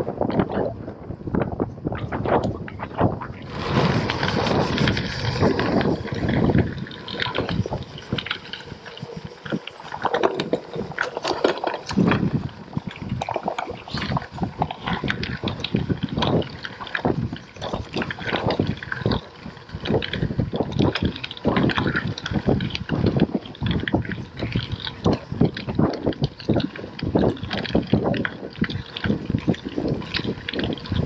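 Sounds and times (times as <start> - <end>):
wind buffeting microphone: 0.0 - 31.0
bike tyres crunching on gravel: 3.0 - 31.0.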